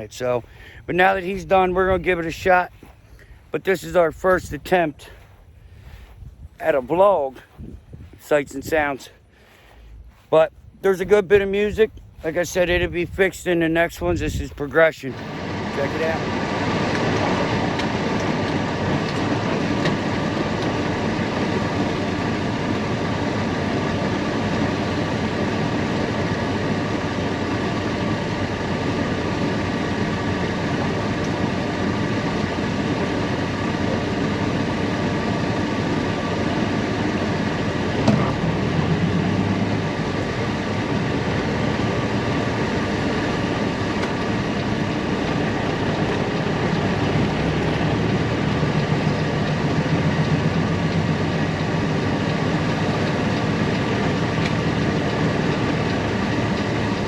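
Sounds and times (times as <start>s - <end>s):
heavy vehicle engine rumbling: 0.0s - 57.0s.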